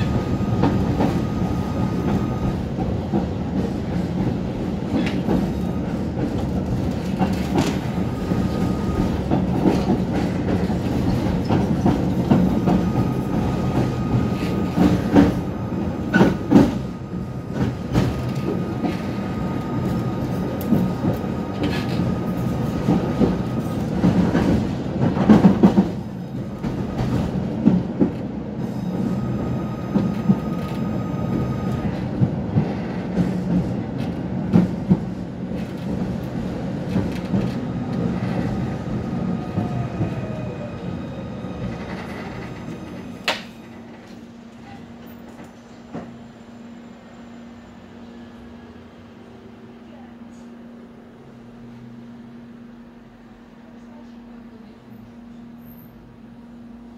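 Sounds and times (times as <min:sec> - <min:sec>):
tram wheels rumbling on rails: 0:00.0 - 0:56.9.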